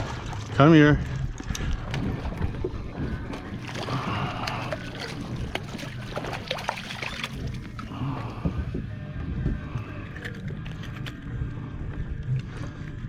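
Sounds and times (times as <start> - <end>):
low rumble of wind and water: 0.0 - 13.0.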